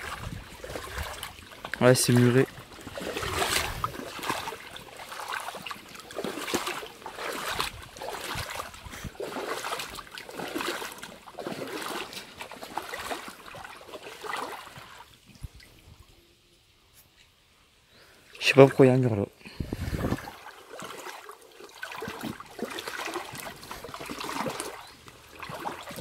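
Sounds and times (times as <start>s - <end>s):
footsteps splashing in water: 0.0s - 15.8s, 19.8s - 26.0s.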